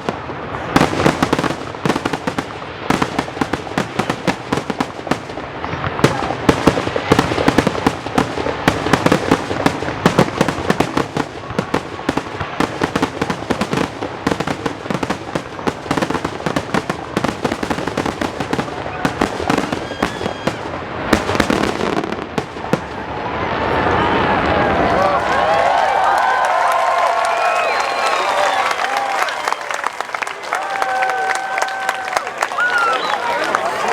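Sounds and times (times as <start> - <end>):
fireworks bursting rapidly: 0.0 - 33.9.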